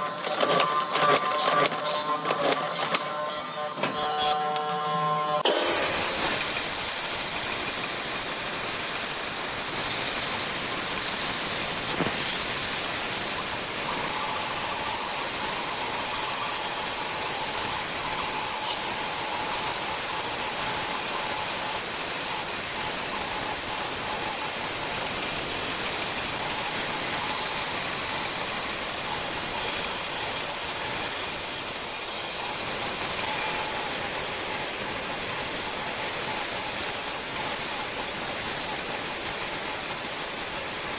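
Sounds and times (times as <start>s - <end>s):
workshop machine hissing: 5.4s - 40.9s.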